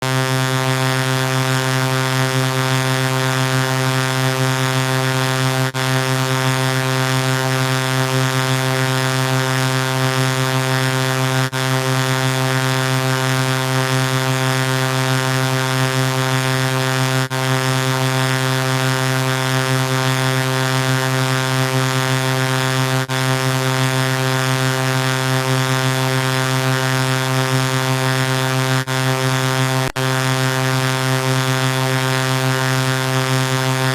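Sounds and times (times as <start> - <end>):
buzzy synthesized vocoder tone: 0.0 - 33.9.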